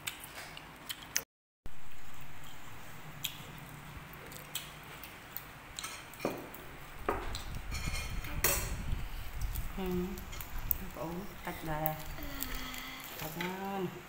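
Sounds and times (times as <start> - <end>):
biting and chewing: 1.8 - 13.4.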